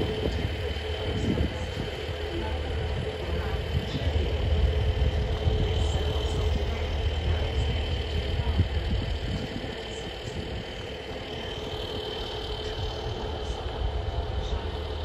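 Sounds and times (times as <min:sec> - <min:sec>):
diesel engines rumbling low: 0:00.0 - 0:15.0
steady high whine: 0:00.0 - 0:15.0.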